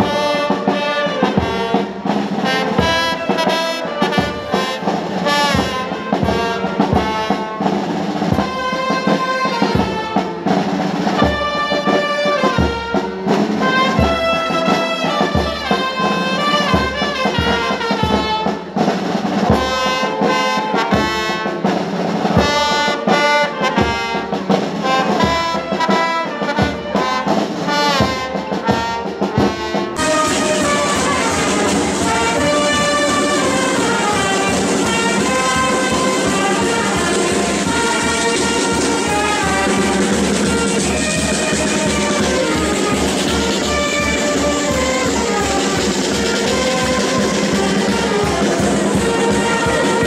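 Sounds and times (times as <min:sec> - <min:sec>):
brass band playing: 0:00.0 - 0:50.0
drum beat: 0:00.0 - 0:50.0.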